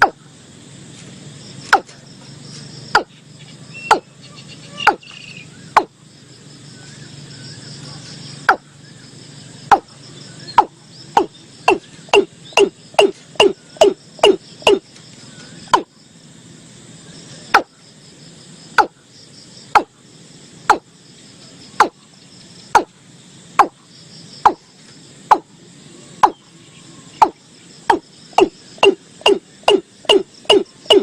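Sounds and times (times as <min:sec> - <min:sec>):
insects chirping faintly: 0:00.0 - 0:31.0.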